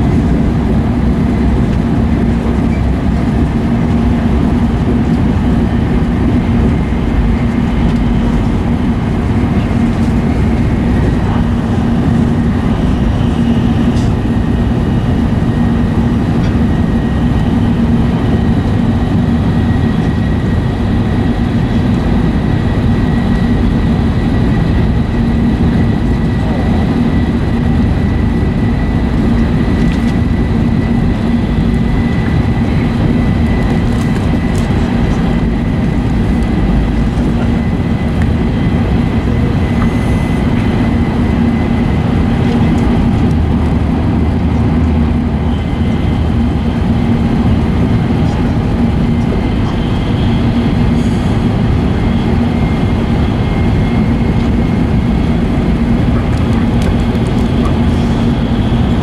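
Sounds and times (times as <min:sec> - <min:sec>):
low hum: 0:00.0 - 0:59.0
train cabin rumble: 0:00.0 - 0:59.0.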